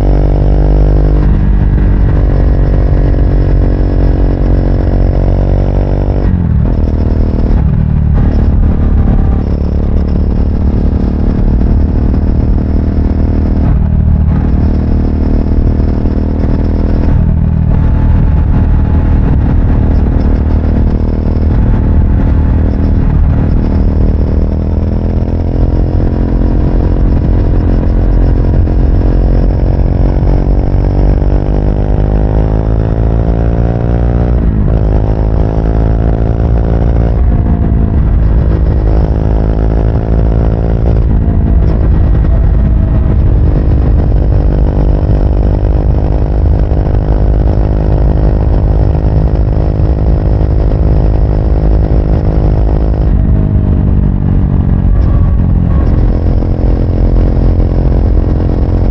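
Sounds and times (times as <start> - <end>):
motorcycle engine accelerating: 0.0 - 58.9.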